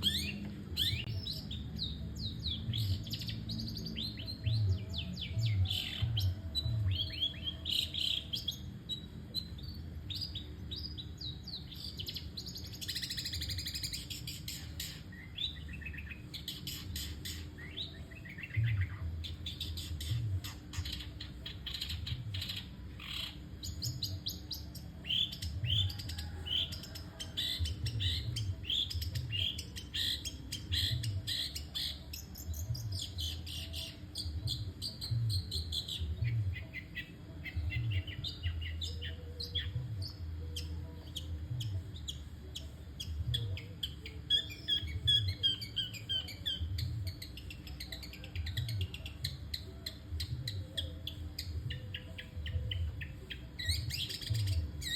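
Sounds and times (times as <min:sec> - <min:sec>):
bird chattering song: 0:00.0 - 0:54.9.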